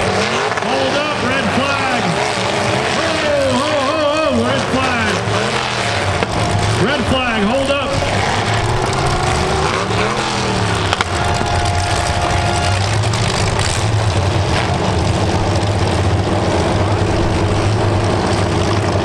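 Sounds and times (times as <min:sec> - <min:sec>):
car engines revving loudly: 0:00.0 - 0:19.0.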